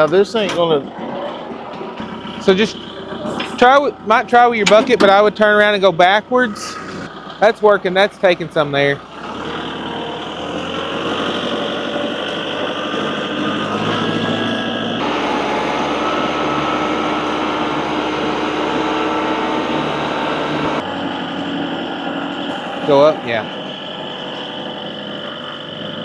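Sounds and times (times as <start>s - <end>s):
tractor engine running under load: 0.1s - 26.0s.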